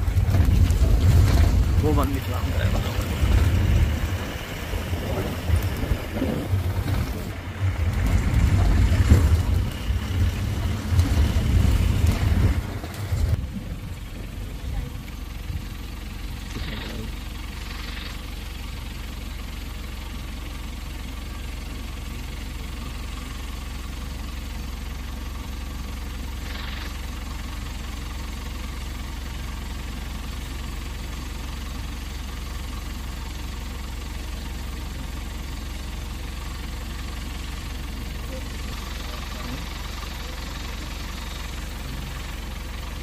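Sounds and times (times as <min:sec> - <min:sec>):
bus engine rumbling: 0:00.0 - 0:43.0.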